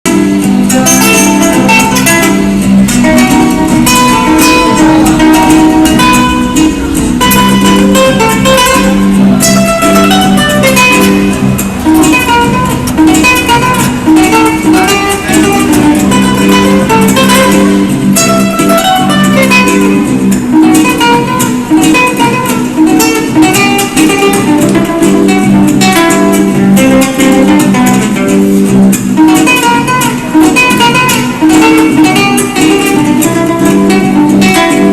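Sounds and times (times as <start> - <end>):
flamenco acoustic guitar music: 0.1 - 34.9.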